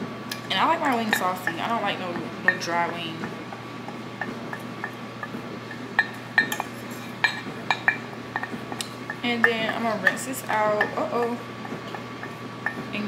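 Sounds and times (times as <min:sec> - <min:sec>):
utensil clinking against a bowl: 0:00.3 - 0:13.0.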